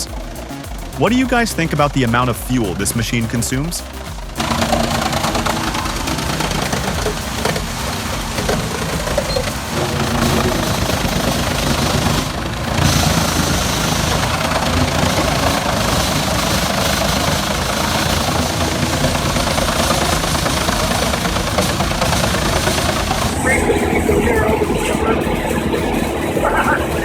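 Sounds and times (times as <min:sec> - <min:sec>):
wood chipper running: 0:00.0 - 0:27.0.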